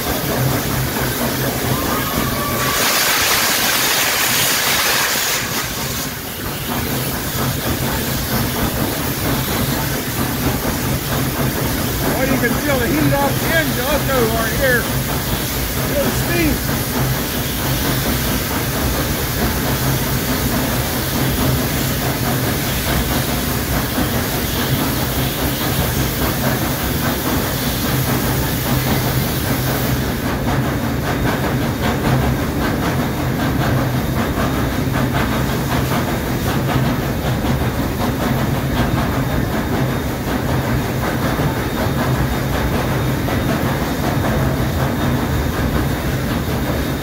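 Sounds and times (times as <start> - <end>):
steam hiss: 0.0 - 47.0
train rumble and rail clatter: 0.0 - 47.0.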